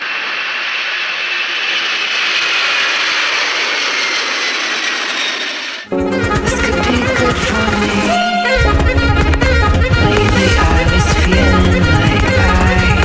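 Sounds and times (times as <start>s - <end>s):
jet engine rush and whine: 0.0s - 13.0s.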